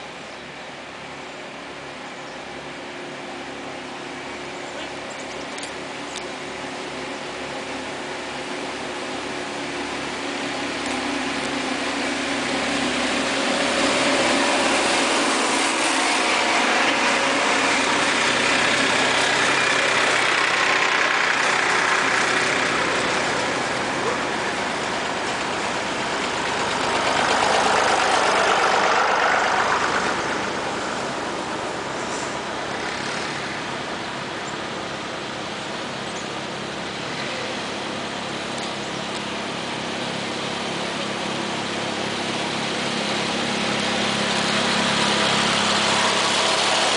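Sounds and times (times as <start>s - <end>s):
tractor engines driving past: 0.0s - 46.9s.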